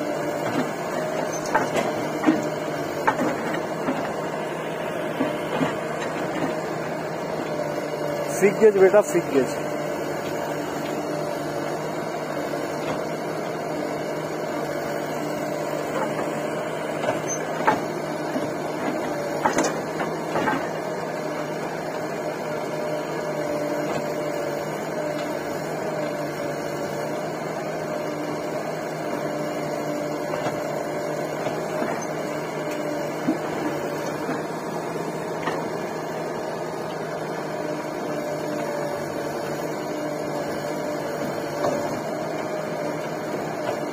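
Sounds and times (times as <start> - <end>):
diesel engines droning: 0.0 - 43.9.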